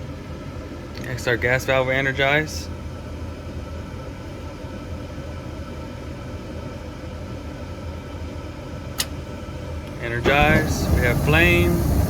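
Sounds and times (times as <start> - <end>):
furnace fan motor humming: 0.0 - 12.0.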